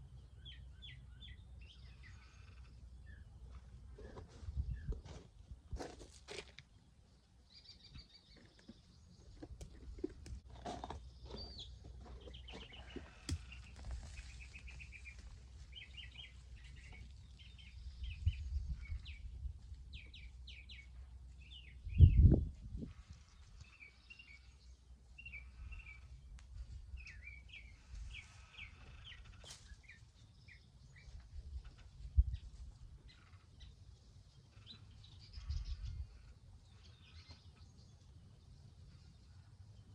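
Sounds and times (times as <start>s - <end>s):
small birds chirping: 0.0s - 5.2s, 7.4s - 39.9s.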